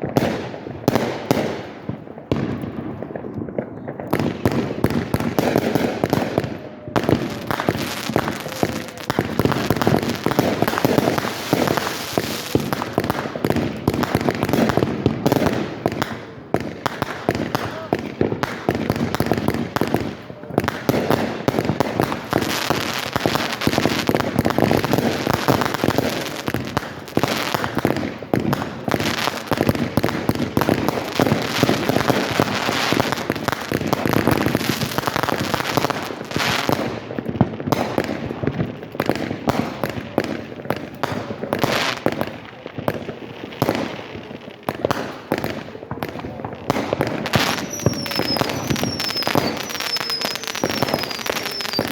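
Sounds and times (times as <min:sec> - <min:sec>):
fireworks banging and crackling: 0:00.0 - 0:51.9.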